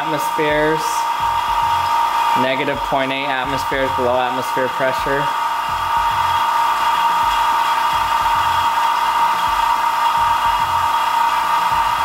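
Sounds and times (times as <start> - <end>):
vacuum pump whining: 0.0 - 12.0.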